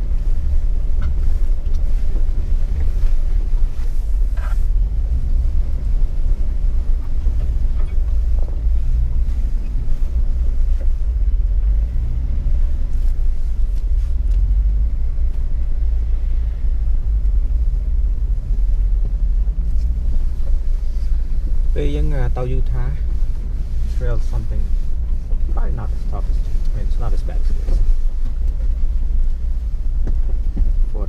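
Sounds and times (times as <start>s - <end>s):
vehicle rumbling on rough trail: 0.0s - 31.0s.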